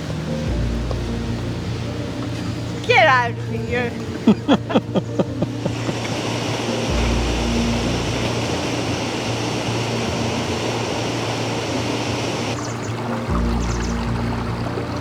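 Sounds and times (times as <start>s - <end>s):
waterfall rushing: 0.0s - 15.0s
wind rumble on microphone: 0.0s - 15.0s.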